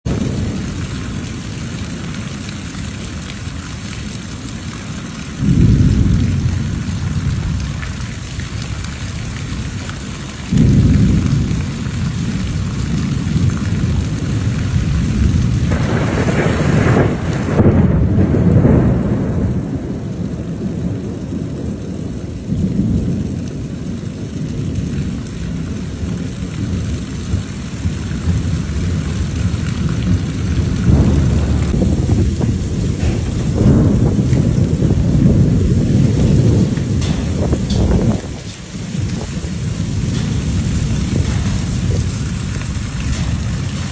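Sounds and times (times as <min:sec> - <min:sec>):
steady rain falling: 0:00.0 - 0:43.9
thunder rolling: 0:00.0 - 0:43.9.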